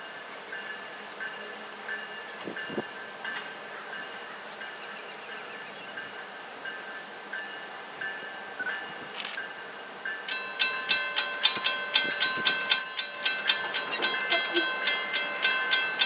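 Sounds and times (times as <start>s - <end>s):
locomotive bell ringing: 0.0s - 16.0s
train rumble: 0.0s - 16.0s.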